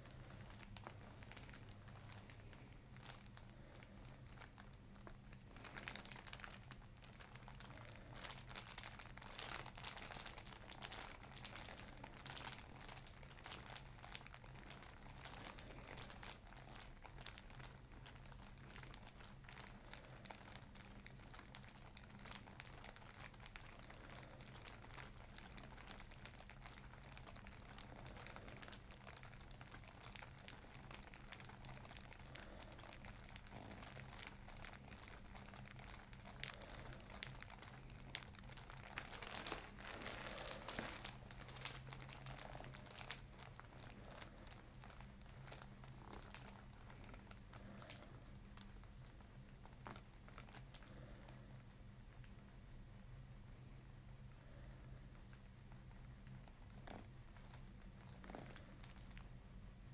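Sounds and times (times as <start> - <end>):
paper crinkling and rustling: 0.0 - 51.1
faint electrical hum: 0.0 - 59.9.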